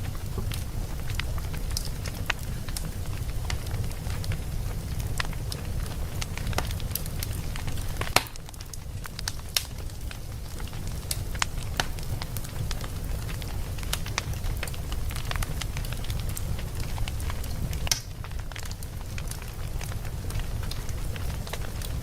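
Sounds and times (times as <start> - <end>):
sharp pops from fire: 0.0 - 22.0
steady low rumble: 0.0 - 22.0
wood fire crackling: 0.0 - 22.0.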